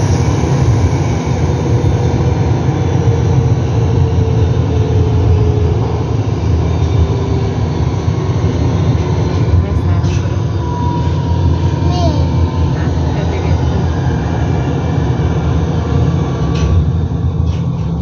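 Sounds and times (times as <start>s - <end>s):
faint train whine: 0.0s - 18.0s
train wheels rumbling on rail: 0.0s - 18.0s.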